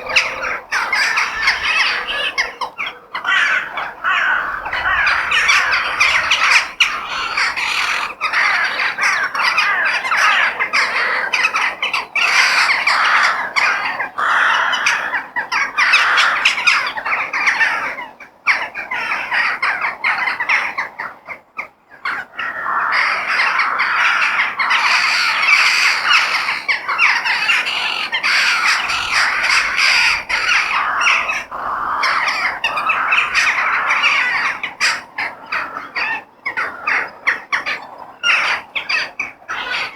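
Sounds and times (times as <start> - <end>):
crows cawing: 0.0 - 20.7, 22.1 - 39.9.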